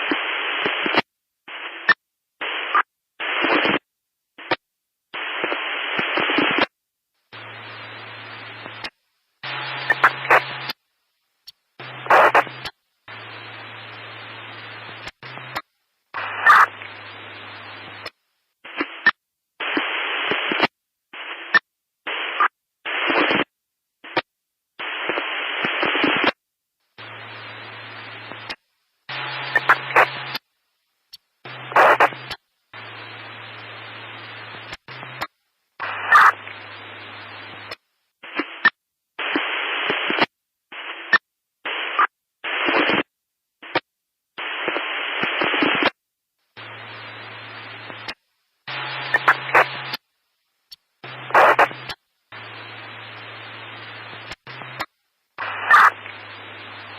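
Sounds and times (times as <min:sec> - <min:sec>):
static hiss bursts: 0:00.0 - 0:56.9.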